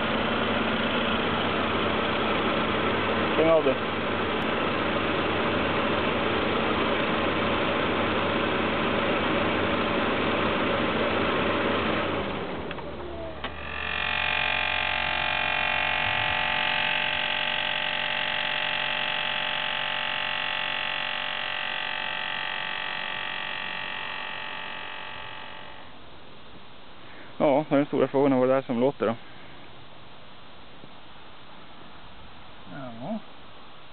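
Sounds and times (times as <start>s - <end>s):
car engine idling: 0.0s - 27.8s
steady high whine: 0.0s - 33.9s.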